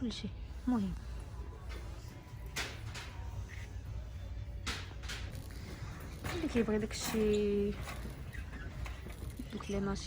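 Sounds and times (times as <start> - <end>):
shop background rumble: 0.0 - 10.0.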